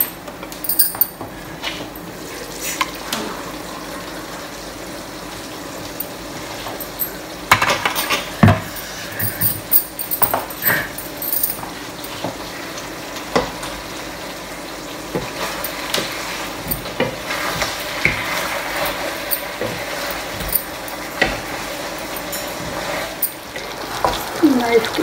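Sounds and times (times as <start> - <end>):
curry sizzling in a wok: 1.3 - 9.2, 11.6 - 25.0.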